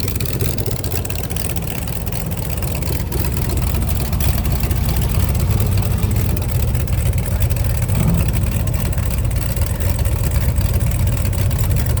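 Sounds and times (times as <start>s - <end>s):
loud car engine idling: 0.0s - 12.0s.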